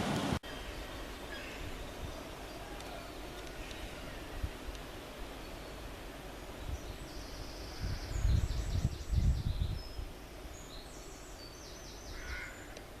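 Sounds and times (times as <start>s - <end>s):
songbird chirps and trills: 0.4s - 13.0s.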